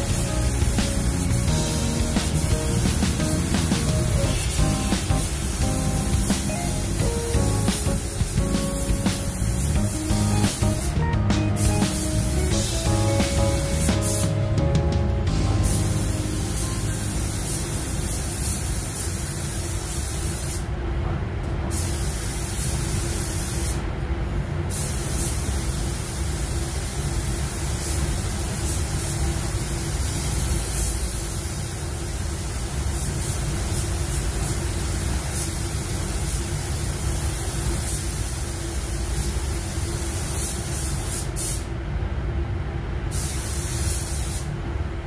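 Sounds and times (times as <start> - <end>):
spray gun hissing: 0.0 - 14.5, 15.4 - 20.7, 21.7 - 23.8, 24.7 - 29.1, 32.3 - 41.7, 43.1 - 44.5
low ventilation rumble: 0.0 - 45.0.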